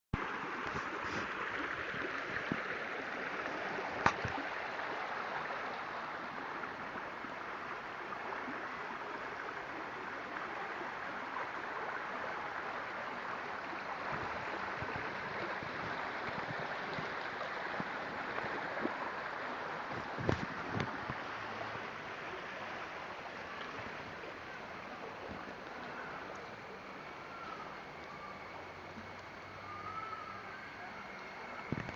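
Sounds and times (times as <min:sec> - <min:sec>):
stream rushing: 0:00.2 - 0:31.9.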